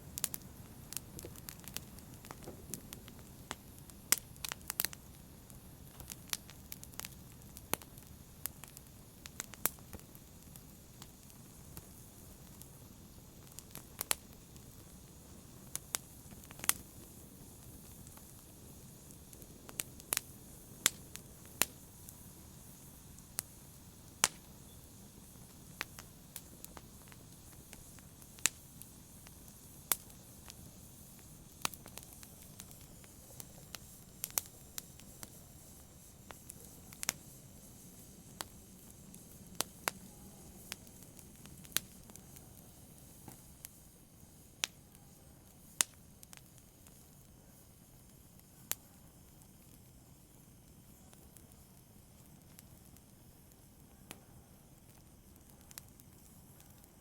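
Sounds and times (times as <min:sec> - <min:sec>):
wood fire popping and snapping: 0:00.0 - 0:44.8, 0:45.6 - 0:57.0
fire low steady hiss: 0:00.0 - 0:57.0.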